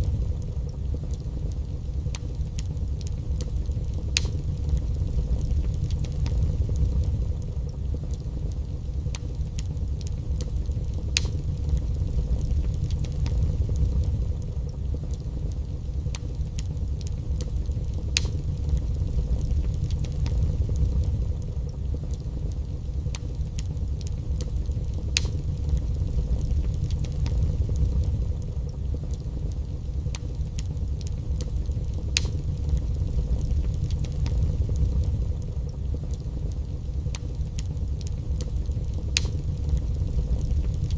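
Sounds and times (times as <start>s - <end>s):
fire flames rumbling: 0.0s - 40.9s
logs crackling and popping: 0.0s - 40.9s.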